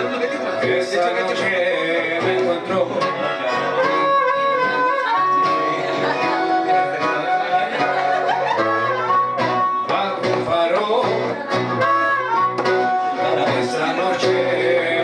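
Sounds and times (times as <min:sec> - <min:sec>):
live blues band: 0:00.0 - 0:15.0.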